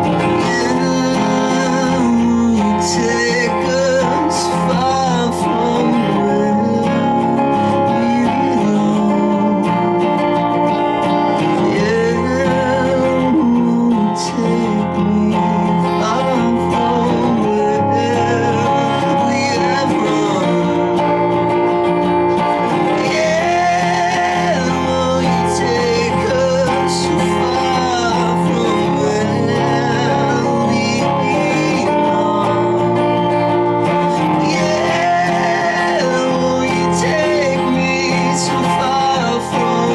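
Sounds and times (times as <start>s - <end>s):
live rock band: 0.0s - 39.9s
person singing: 0.0s - 39.9s.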